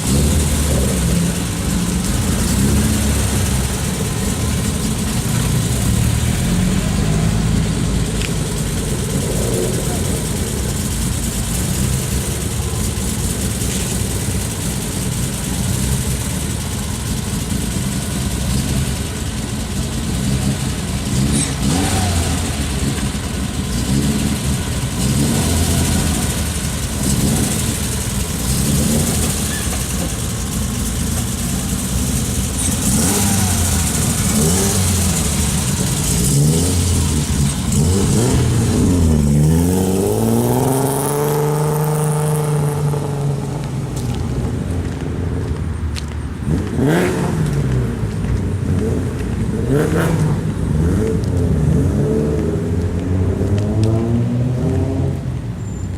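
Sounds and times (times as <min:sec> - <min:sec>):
car engines idling and revving: 0:00.0 - 0:55.9.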